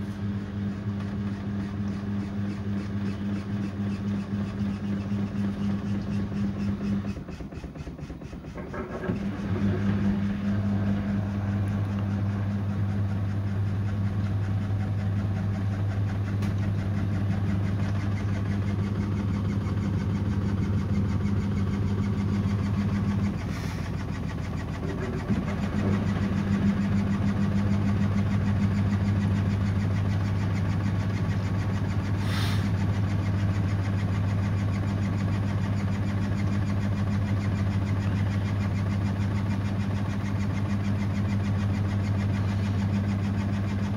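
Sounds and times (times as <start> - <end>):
washing machine humming: 0.0 - 43.9.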